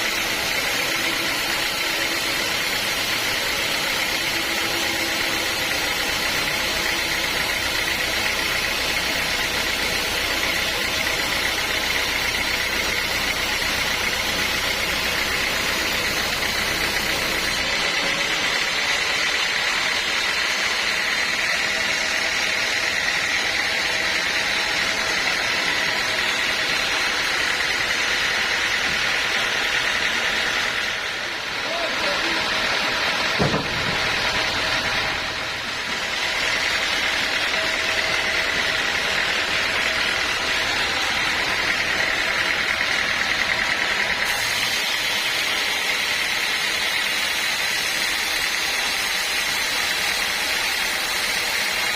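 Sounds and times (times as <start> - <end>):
sawmill machinery whine: 0.0 - 51.9.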